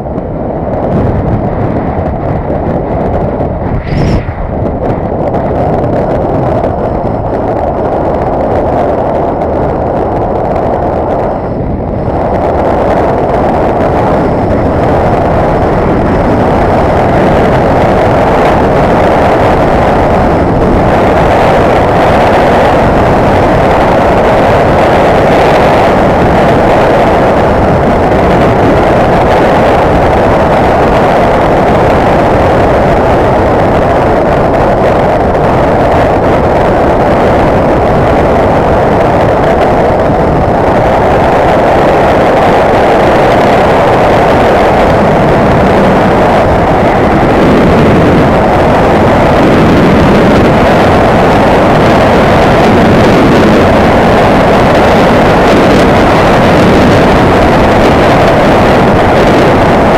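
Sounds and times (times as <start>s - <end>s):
wind rushing: 0.0s - 59.9s.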